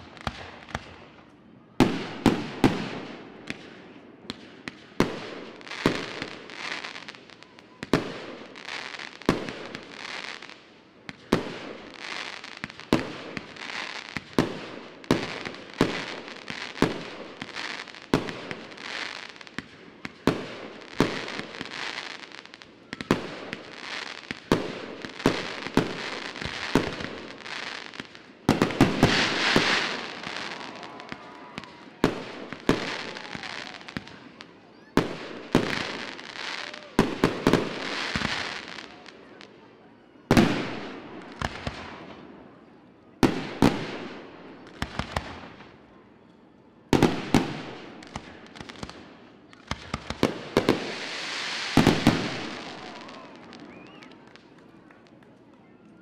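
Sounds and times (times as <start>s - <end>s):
fireworks bursting with sharp bangs: 0.0s - 39.6s, 40.2s - 45.9s, 46.9s - 55.3s.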